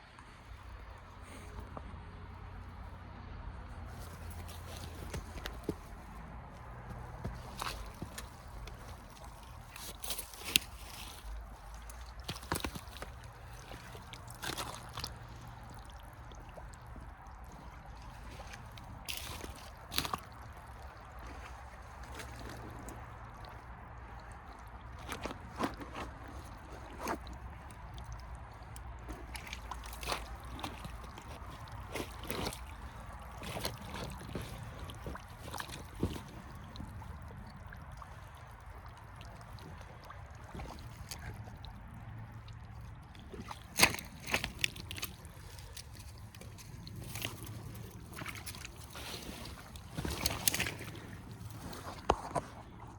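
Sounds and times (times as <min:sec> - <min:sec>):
boots squelching through mud: 0:03.7 - 0:52.9
water splashes: 0:03.7 - 0:52.9.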